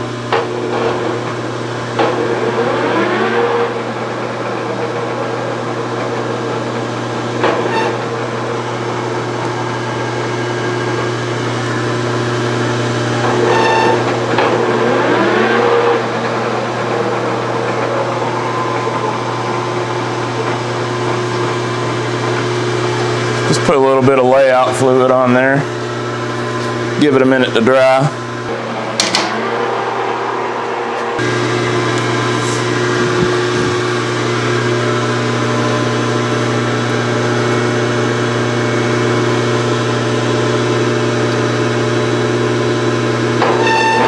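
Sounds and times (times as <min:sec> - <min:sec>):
lathe motor and gear hum: 0:00.0 - 0:44.0.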